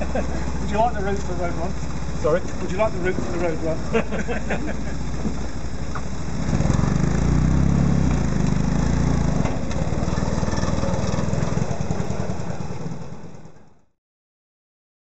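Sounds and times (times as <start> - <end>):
racing car engine pulling away: 0.0 - 13.8.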